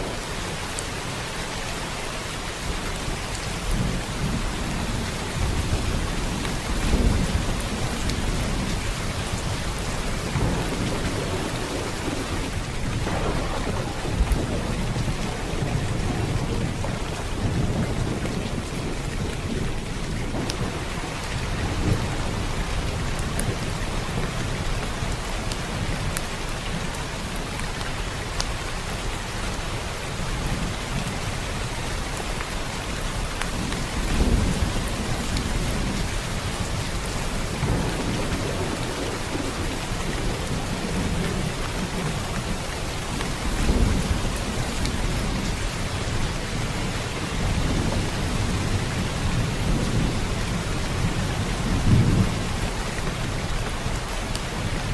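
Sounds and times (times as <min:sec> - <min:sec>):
thunder rumbling: 0:00.0 - 0:27.5, 0:30.4 - 0:54.9
steady rain: 0:00.0 - 0:54.9.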